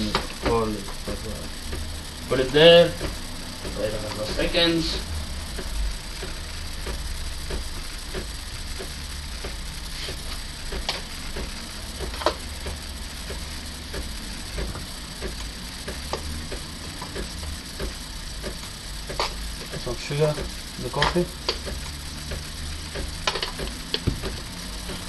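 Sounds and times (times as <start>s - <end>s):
espresso machine steaming milk: 0.0s - 25.0s.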